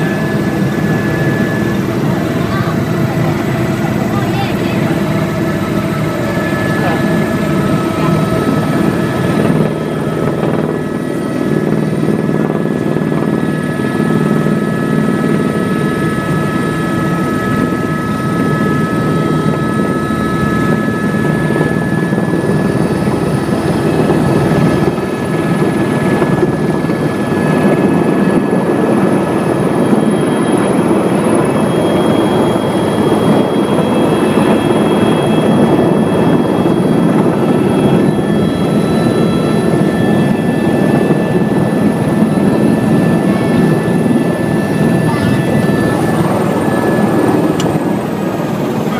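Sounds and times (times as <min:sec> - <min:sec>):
helicopter turbine and rotor noise: 0:00.0 - 0:48.9.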